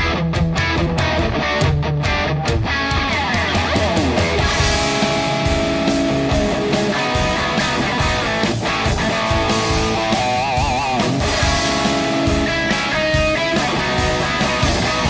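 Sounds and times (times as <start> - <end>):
guitar music over a beat: 0.0 - 15.0.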